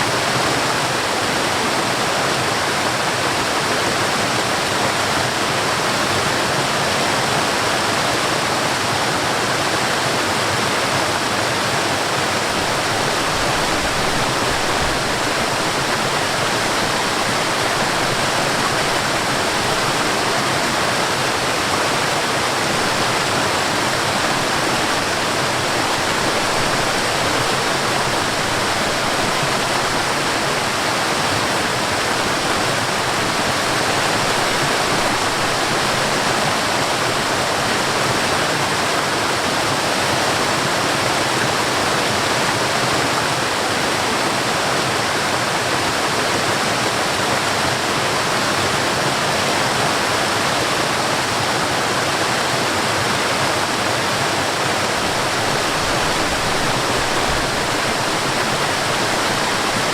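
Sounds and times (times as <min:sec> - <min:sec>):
stream spilling over small waterfall: 0:00.0 - 0:59.9.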